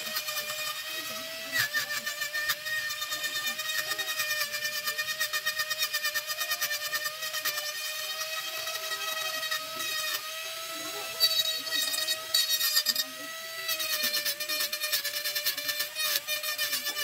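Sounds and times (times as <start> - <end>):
bit grinding into wood: 0.0 - 17.0
rotary tool high whine: 0.0 - 17.0.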